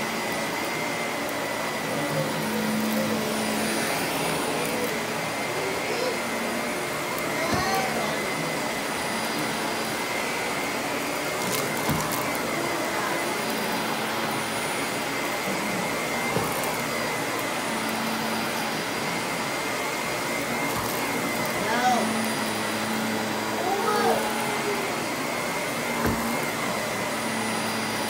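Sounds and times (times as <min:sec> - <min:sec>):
vacuum cleaner whining: 0:00.0 - 0:28.0.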